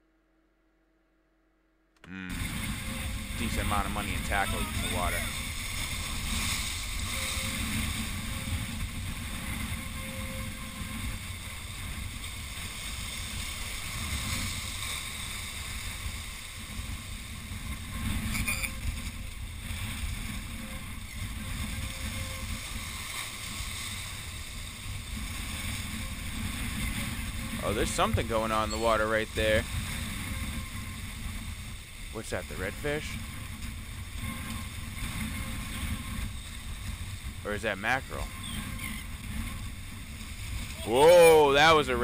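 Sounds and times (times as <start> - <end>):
wind rumbling on microphone: 2.2 - 42.0
surf breaking against rocks: 2.3 - 9.8, 10.8 - 18.3, 19.3 - 38.4, 39.2 - 42.0.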